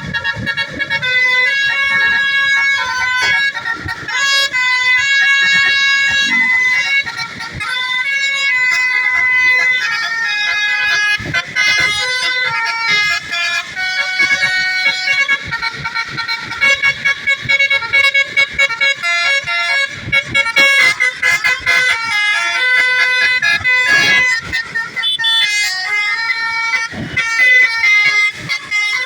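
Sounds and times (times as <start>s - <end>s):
musical bus horn melody: 0.0s - 29.0s.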